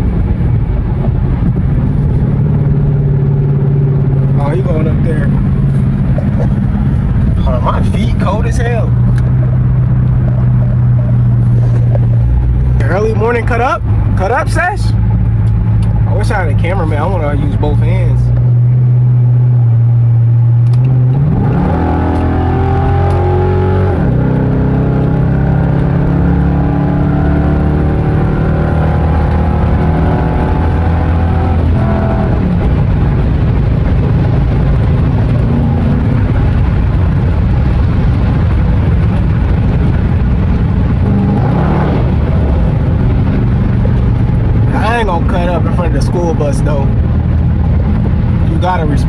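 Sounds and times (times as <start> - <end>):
car exhaust droning and revving: 0.0 - 49.0.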